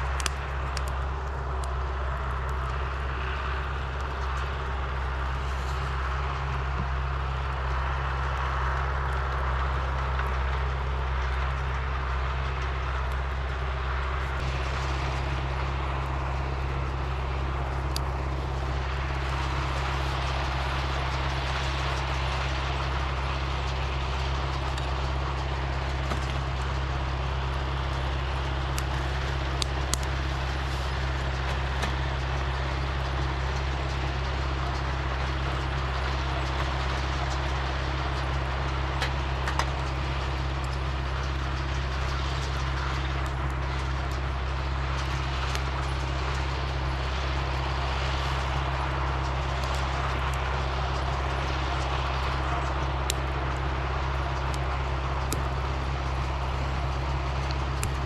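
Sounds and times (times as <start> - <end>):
engine droning: 0.0 - 58.0.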